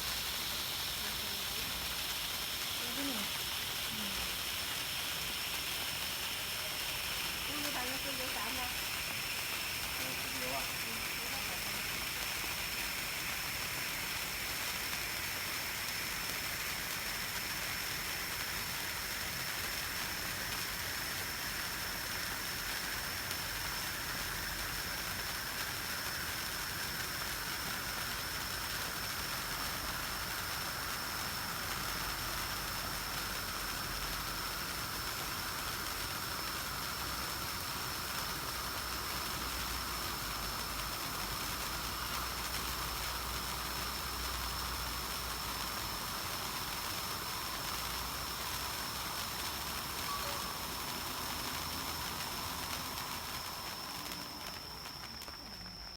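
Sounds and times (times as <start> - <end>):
hiss of falling sparks: 0.0 - 55.9.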